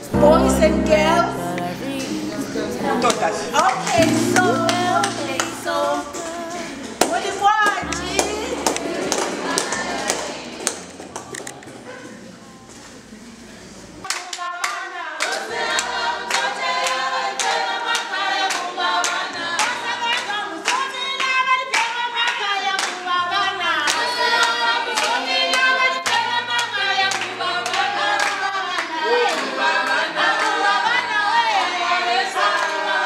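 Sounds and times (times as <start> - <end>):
group singing unaccompanied: 0.0 - 11.0, 14.8 - 33.0
rhythmic hand-clapping: 3.0 - 11.6, 14.1 - 33.0.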